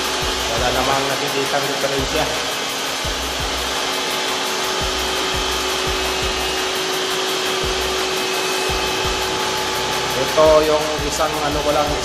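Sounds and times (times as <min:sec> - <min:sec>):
machinery humming and rushing: 0:00.0 - 0:12.0.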